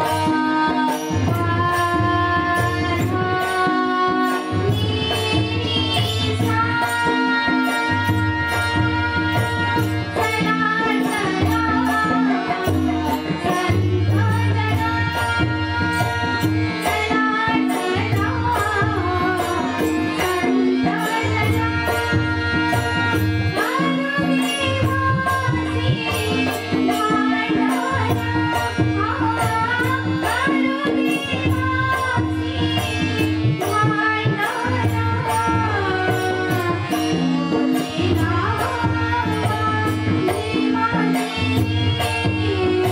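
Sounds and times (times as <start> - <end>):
person singing devotional song: 0.0 - 42.9.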